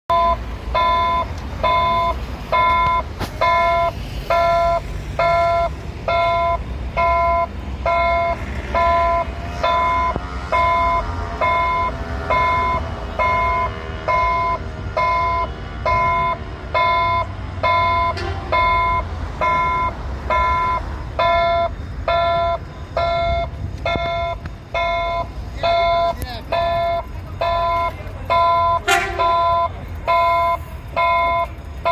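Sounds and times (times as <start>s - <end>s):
electronic warning beeper: 0.1s - 31.5s.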